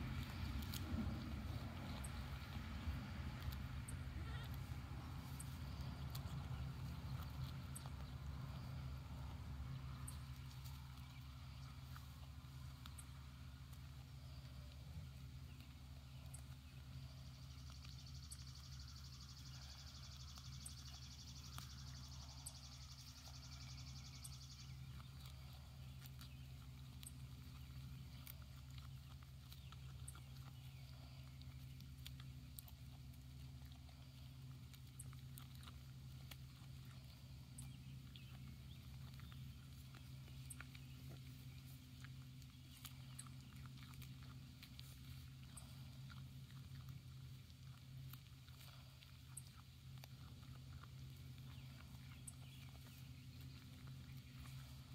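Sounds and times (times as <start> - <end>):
goats chewing grass: 0.0 - 54.9
steady low rumble: 0.0 - 54.9.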